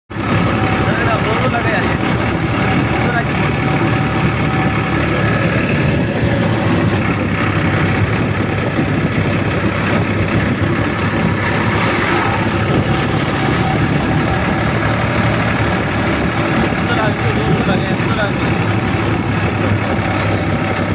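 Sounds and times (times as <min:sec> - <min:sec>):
road vehicle running noise: 0:00.1 - 0:20.9.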